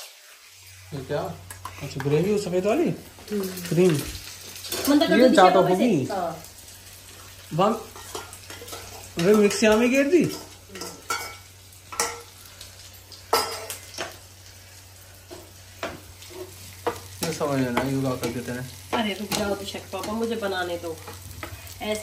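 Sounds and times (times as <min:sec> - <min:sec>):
food sizzling in frying pan: 0:00.0 - 0:22.0.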